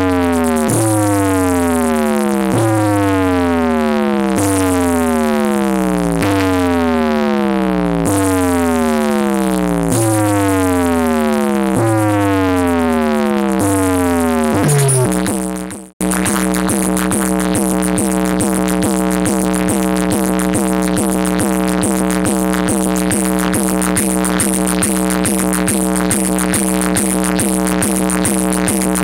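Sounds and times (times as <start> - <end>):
electronic dance music: 0.0 - 7.2, 8.0 - 29.0
steady low bass: 0.0 - 29.0.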